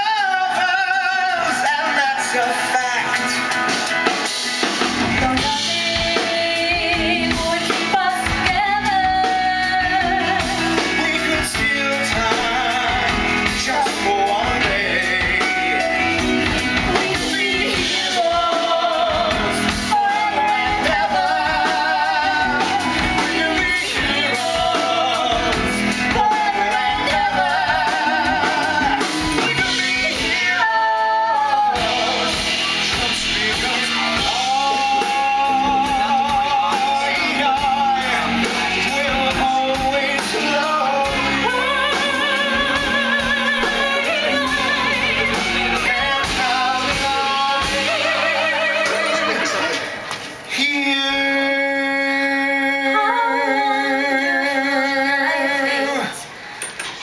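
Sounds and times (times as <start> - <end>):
band accompaniment: 0.0 - 57.0
person singing with vibrato: 0.0 - 57.0.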